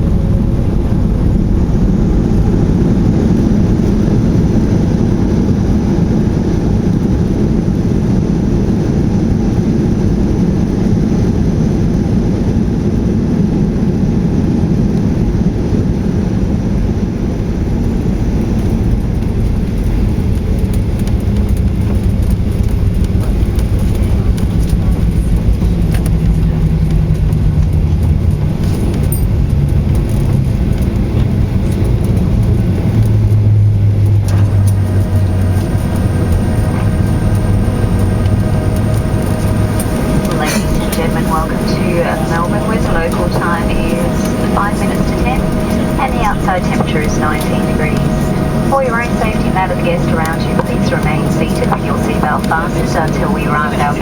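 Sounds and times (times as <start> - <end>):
aircraft engine rumble in cabin: 0.0 - 54.0
faint steady engine tones: 0.0 - 54.0.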